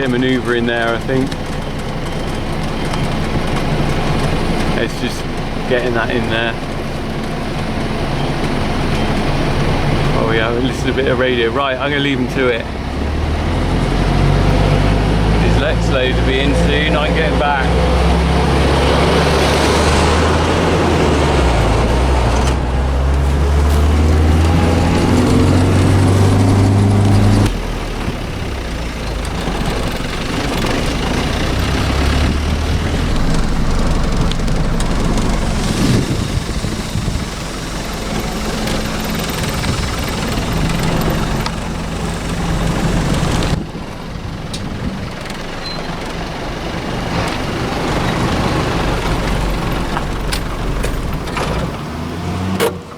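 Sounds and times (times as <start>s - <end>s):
road noise: 0.0s - 52.9s
vehicle engine running: 0.0s - 52.9s.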